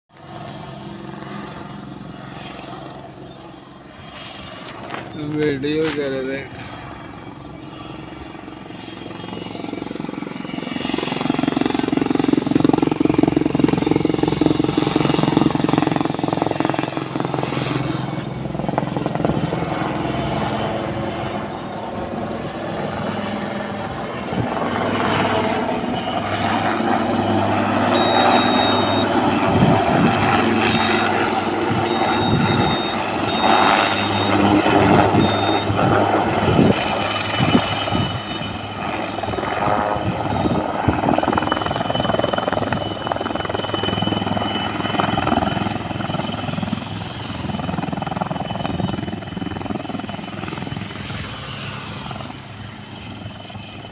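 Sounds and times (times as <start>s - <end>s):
helicopter rotor and turbine engine: 0.1s - 53.9s.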